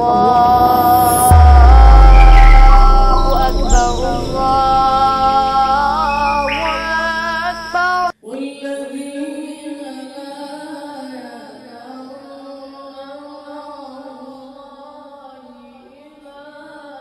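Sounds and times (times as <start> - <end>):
person reciting melodically: 0.0 - 17.0.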